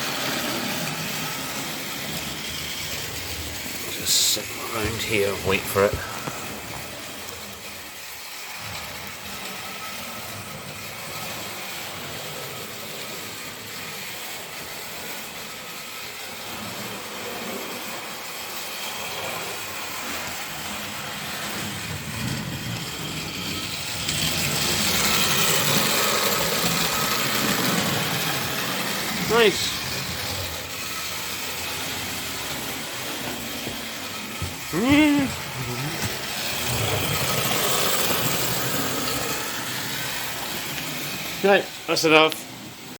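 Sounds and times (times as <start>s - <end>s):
model train rumbling: 0.0s - 42.9s.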